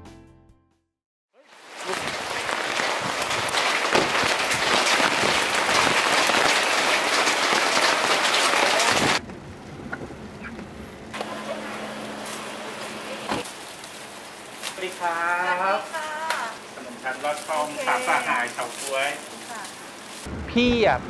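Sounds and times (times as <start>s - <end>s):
heavy rain pouring: 1.4s - 9.2s, 11.2s - 21.0s.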